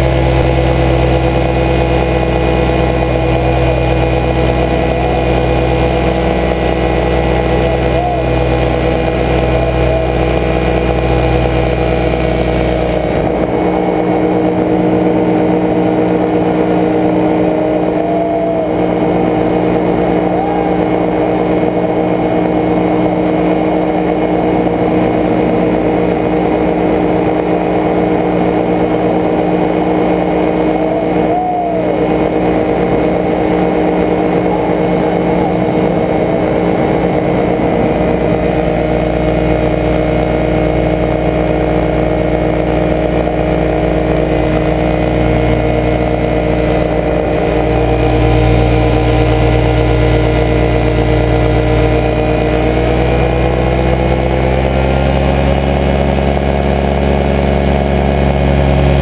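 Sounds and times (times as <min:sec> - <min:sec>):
paramotor engine droning: 0:00.0 - 0:59.0.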